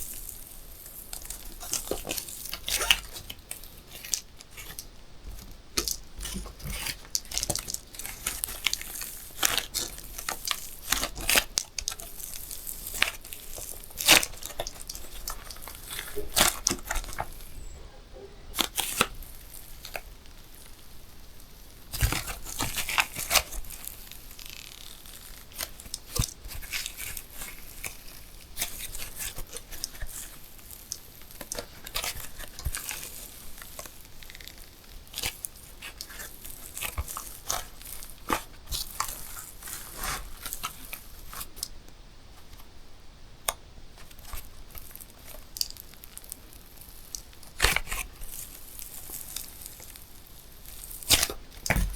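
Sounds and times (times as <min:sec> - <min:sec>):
rubbery balloon crinkling: 0:00.0 - 0:41.8, 0:44.0 - 0:51.9.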